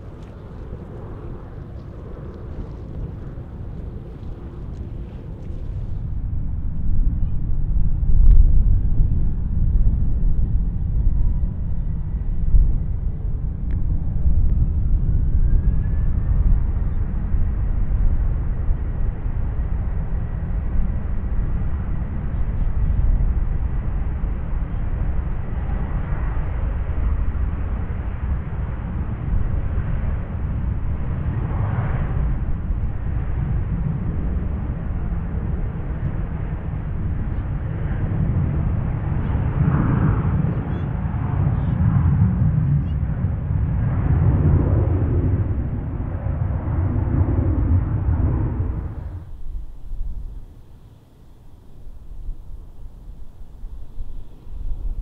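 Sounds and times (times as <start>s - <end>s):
faint thin engine whine: 0.0s - 7.7s, 9.3s - 55.0s
jet engine low rumble: 0.0s - 55.0s.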